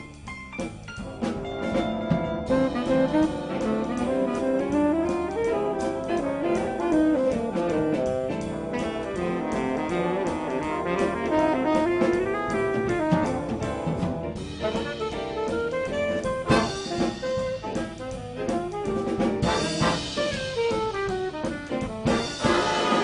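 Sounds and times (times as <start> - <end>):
drum kit: 0.0 - 23.0
brass and saxophones melody: 1.2 - 23.0.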